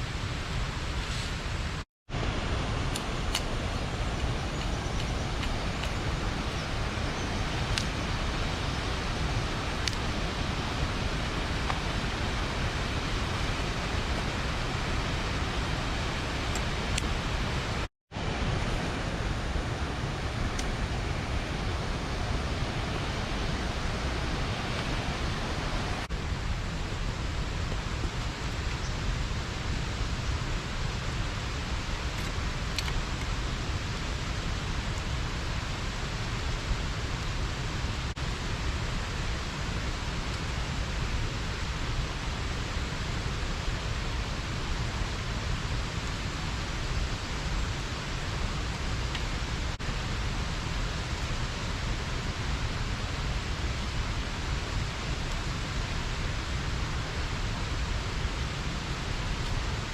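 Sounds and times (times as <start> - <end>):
river water pouring over dam: 2.2 - 59.9.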